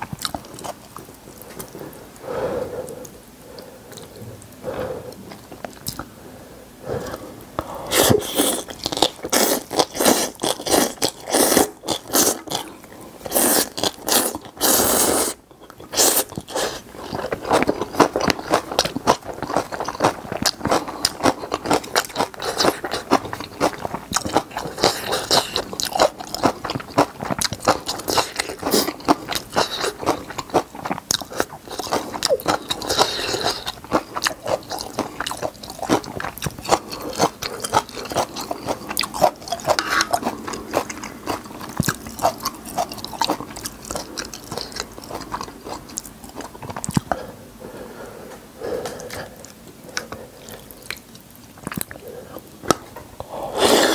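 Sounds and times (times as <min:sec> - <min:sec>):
wet chewing with crisp crunches: 0:00.0 - 0:01.8, 0:08.0 - 0:47.2, 0:49.0 - 0:52.0.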